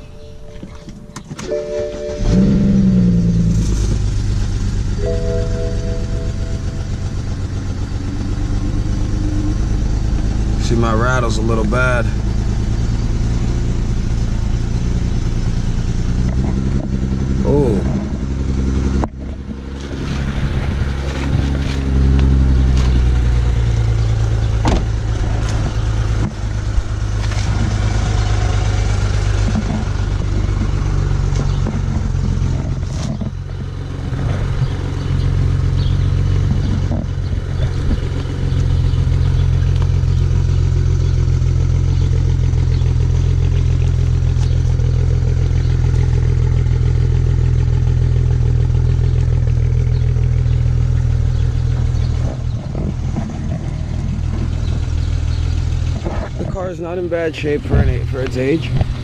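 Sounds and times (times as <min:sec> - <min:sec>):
car engine idling rough: 0:00.0 - 0:59.0.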